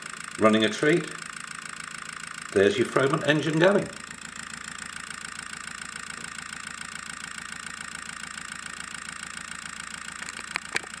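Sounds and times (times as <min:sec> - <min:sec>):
model engine ticking: 0:00.0 - 0:11.0.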